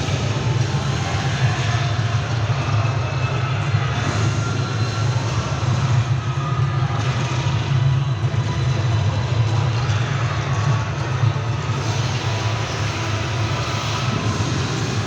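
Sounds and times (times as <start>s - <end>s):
constant rushing noise: 0.0s - 15.0s.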